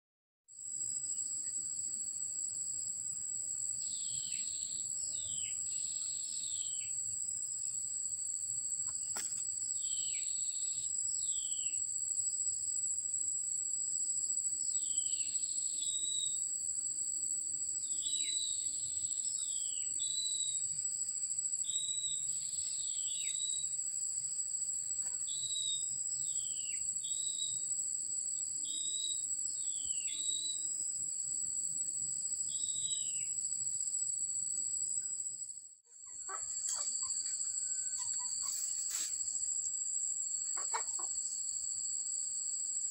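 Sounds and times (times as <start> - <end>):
insects trilling: 0.6 - 42.9.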